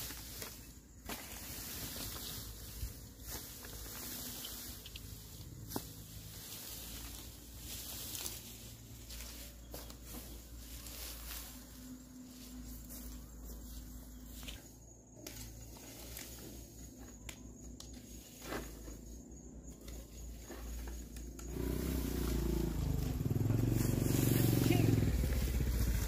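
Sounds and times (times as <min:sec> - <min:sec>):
tools raking dry grass: 0:00.0 - 0:26.0.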